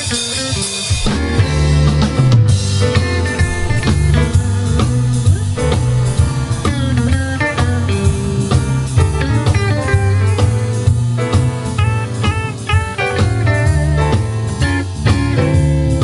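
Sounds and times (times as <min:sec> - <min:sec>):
drum kit: 0:00.0 - 0:16.0
electric guitar lead with bent notes: 0:00.0 - 0:16.0
upright bass: 0:00.0 - 0:16.0.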